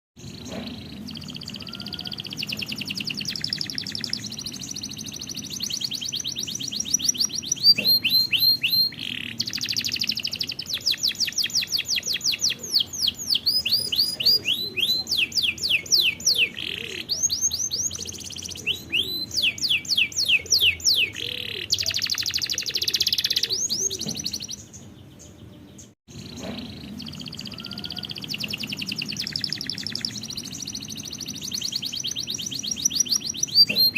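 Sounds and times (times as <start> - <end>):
canary singing trills: 0.2 - 33.9.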